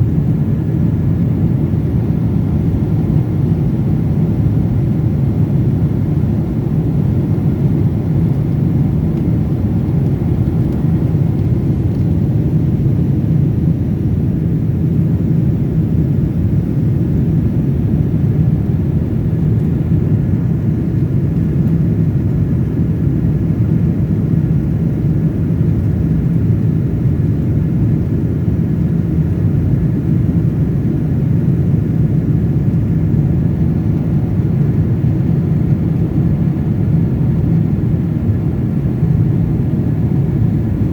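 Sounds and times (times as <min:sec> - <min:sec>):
airplane cabin drone in flight: 0:00.0 - 0:40.9.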